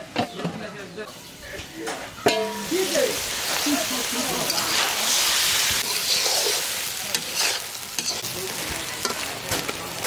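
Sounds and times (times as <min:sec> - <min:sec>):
curry sizzling in a pan: 0:01.1 - 0:10.0.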